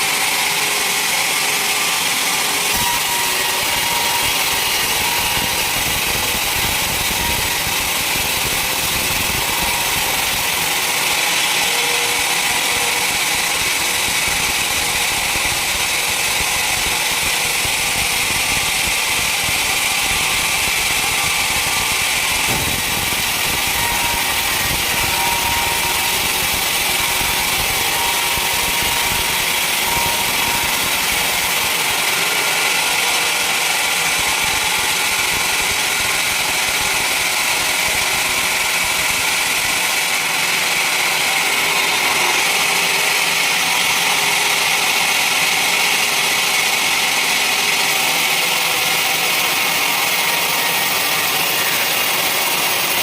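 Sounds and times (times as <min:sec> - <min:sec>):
sawmill saw running: 0:00.0 - 0:53.0.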